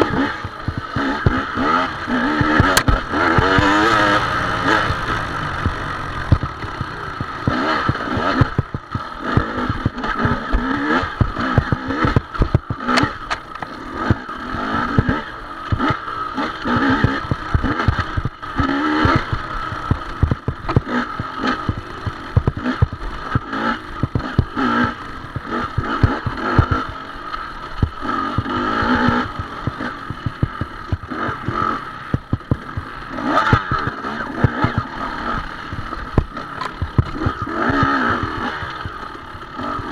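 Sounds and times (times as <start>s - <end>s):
dirt bike engine revving: 0.0s - 39.9s
knocks and clattering over bumps: 0.0s - 39.9s.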